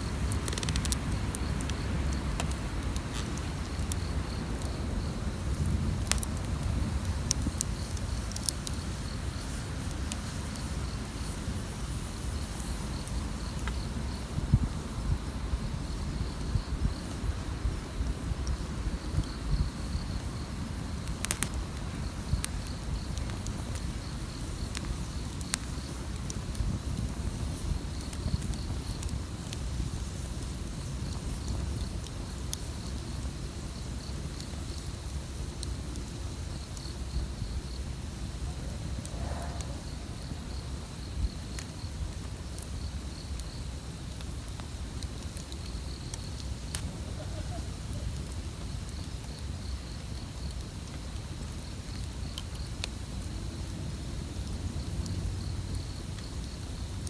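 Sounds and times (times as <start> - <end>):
campfire crackling: 0.0 - 57.0
cricket trilling: 0.0 - 57.0.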